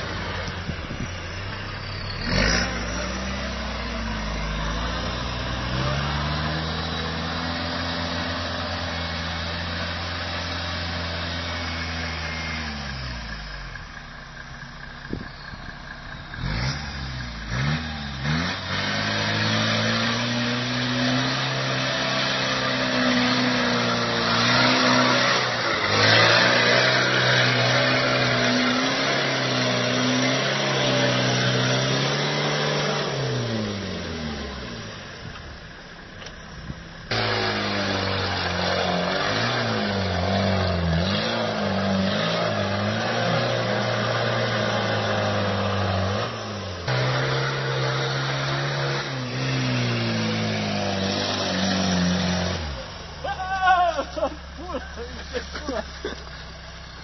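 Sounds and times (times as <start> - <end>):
car engine under load: 0.0 - 57.0.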